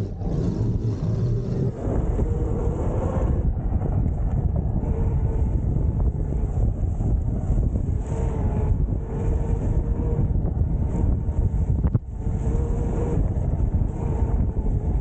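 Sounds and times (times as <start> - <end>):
faint electric motor whine: 0.0 - 15.0
rumbling noise: 0.0 - 15.0
wind buffeting microphone: 0.0 - 15.0.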